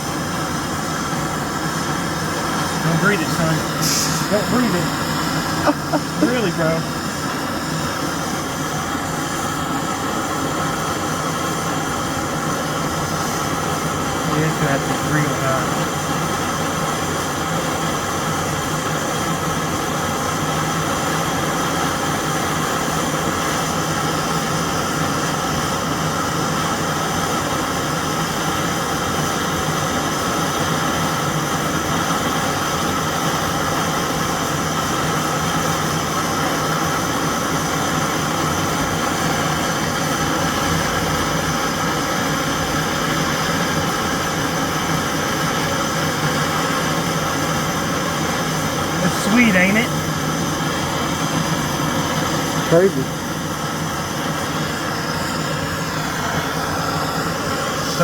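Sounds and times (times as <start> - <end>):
gas torch flame hissing: 0.0 - 58.0.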